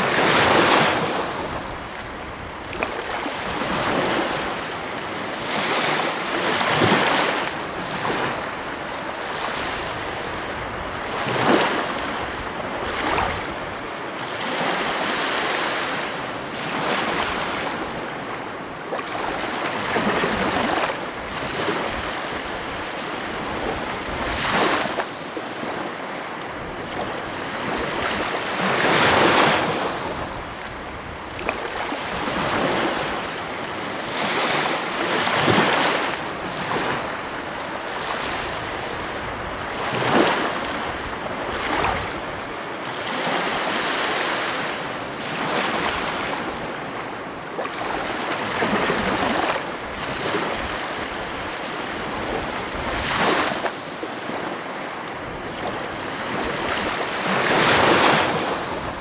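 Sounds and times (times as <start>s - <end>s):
ocean waves crashing: 0.0s - 59.0s.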